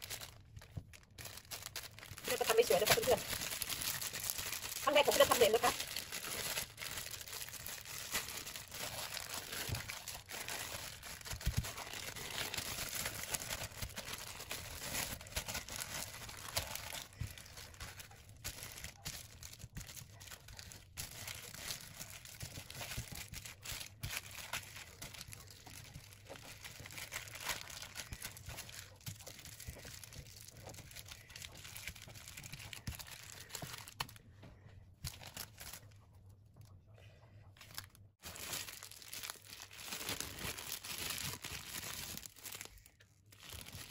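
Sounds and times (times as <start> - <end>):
plastic bags crinkling: 0.0 - 34.2, 35.0 - 36.0, 37.6 - 43.9.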